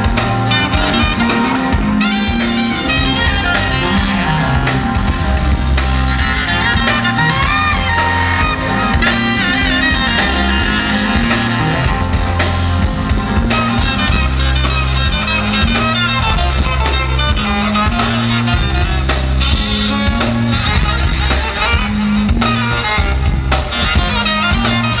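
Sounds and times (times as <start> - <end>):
guitar: 0.0 - 25.0
repeating bass line: 0.0 - 25.0.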